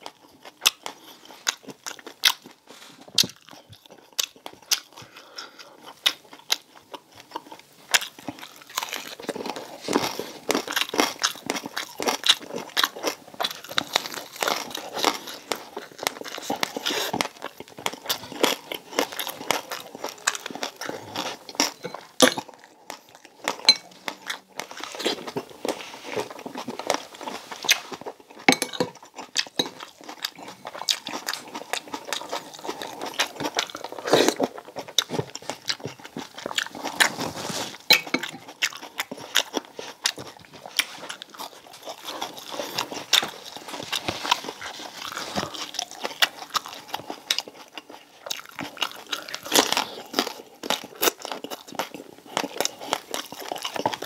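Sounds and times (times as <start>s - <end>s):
crunching crispy pork: 0.0s - 54.0s
wet chewing: 0.0s - 54.0s.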